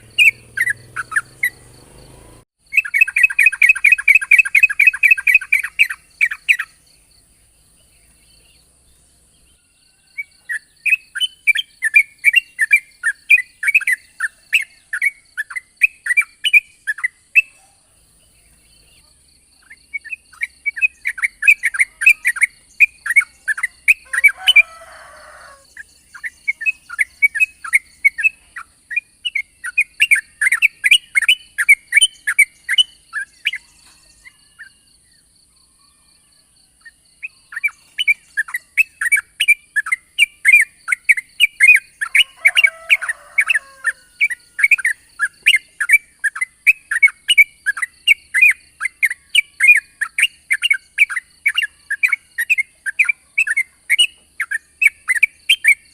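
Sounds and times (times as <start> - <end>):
bird singing bright chattering notes: 0.0 - 35.4, 36.8 - 55.9.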